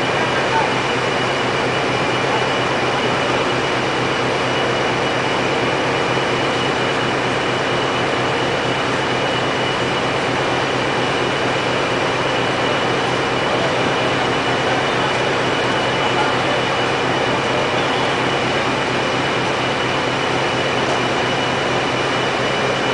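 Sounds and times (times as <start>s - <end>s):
heavy lifting machinery drone: 0.0s - 22.9s
high steady whine: 0.0s - 22.9s.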